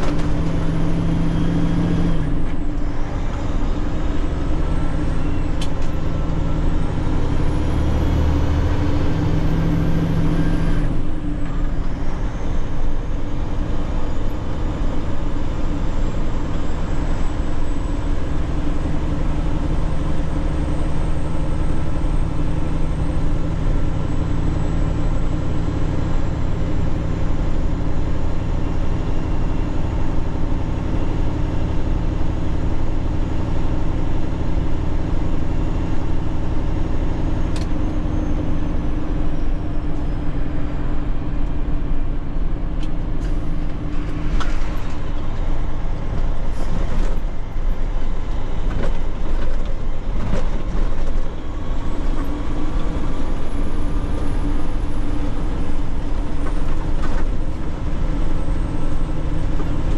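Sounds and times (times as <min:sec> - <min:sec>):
truck engine drone: 0:00.0 - 0:59.9.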